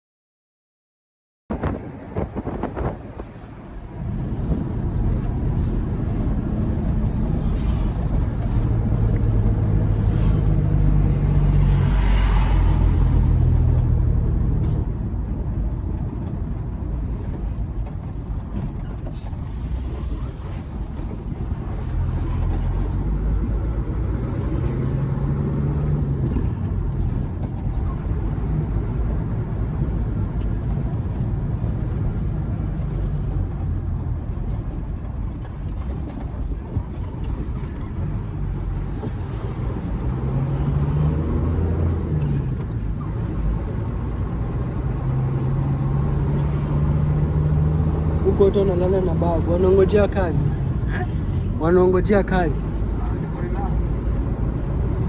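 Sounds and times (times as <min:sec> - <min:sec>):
road noise: 0:01.5 - 0:55.0.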